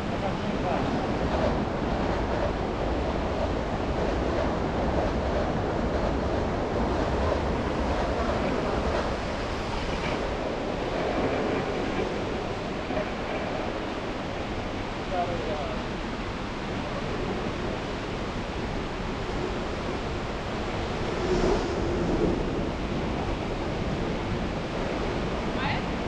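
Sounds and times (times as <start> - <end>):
wind on microphone: 0.0 - 15.1, 15.7 - 26.0.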